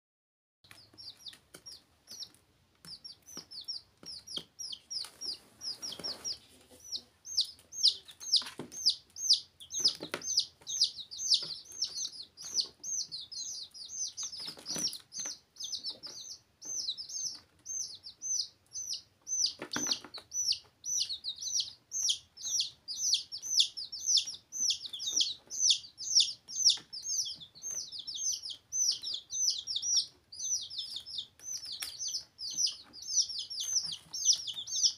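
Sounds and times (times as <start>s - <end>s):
baby chicks peeping: 0.6s - 34.9s.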